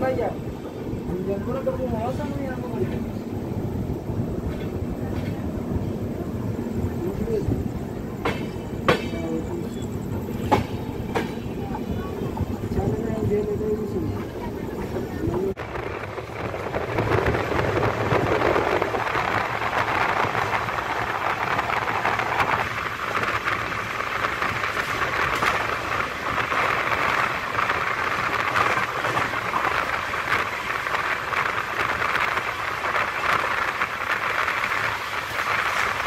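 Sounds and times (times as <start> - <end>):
train wheels on rails: 0.0 - 36.0
wind rushing: 0.0 - 36.0.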